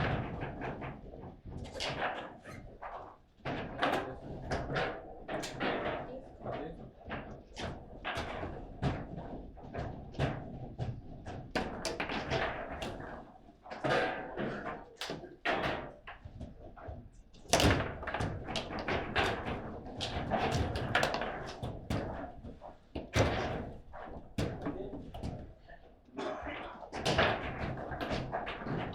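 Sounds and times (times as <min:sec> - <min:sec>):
table football ball knocks and clacks: 0:00.0 - 0:25.7, 0:26.9 - 0:28.9.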